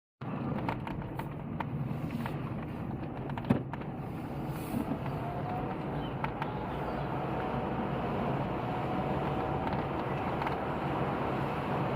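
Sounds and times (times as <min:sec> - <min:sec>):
road and wind noise: 0:00.2 - 0:11.9.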